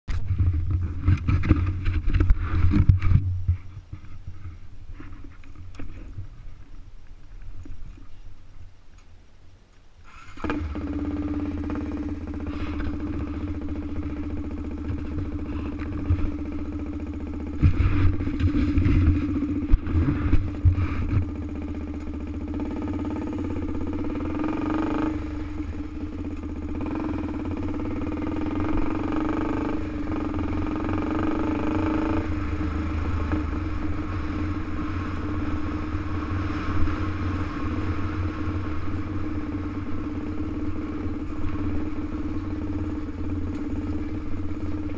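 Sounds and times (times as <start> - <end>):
quad bike engine running: 0.1 - 6.7, 10.1 - 44.9.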